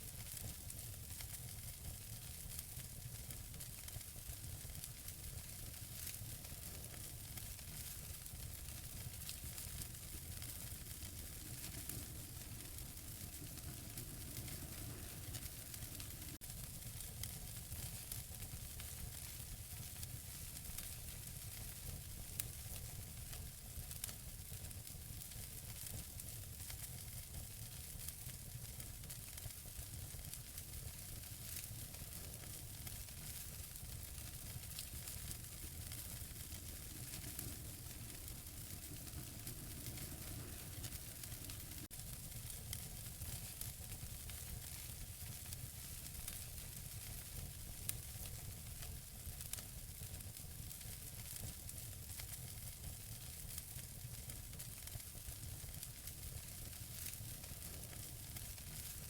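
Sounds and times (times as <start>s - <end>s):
wood fire burning: 0.0s - 59.0s.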